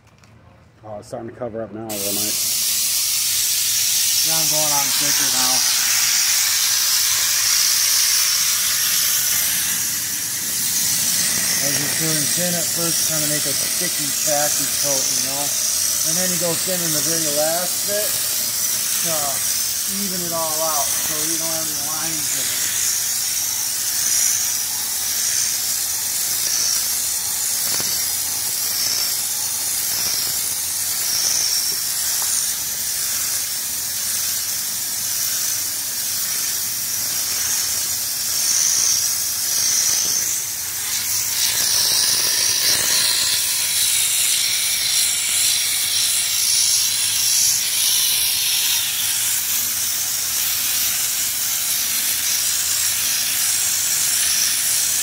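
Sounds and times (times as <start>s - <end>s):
spray gun hissing: 1.9s - 55.0s.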